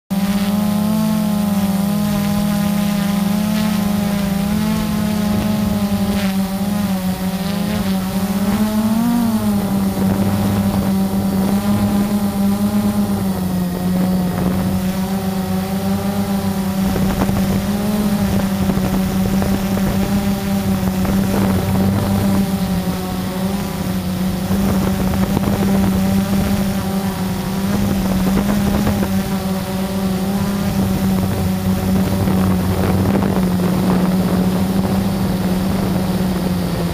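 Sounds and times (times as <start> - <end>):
quadcopter motors buzzing: 0.1 - 36.9.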